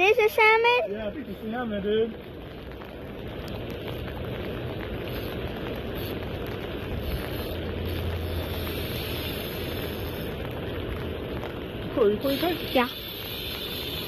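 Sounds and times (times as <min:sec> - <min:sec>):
wind and rain on microphone: 0:00.0 - 0:14.0.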